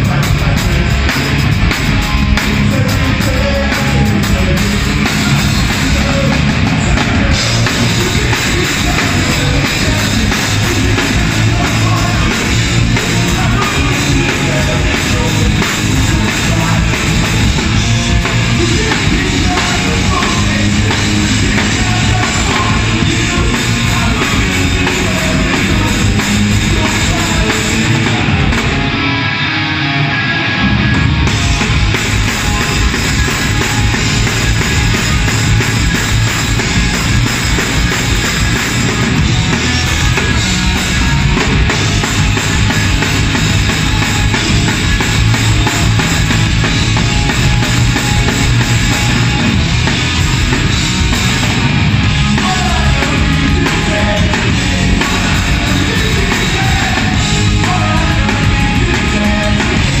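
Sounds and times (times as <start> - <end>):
drum kit with crashing cymbals: 0.0 - 28.9, 31.3 - 60.0
bass guitar: 0.0 - 60.0
distorted electric guitar: 0.0 - 60.0.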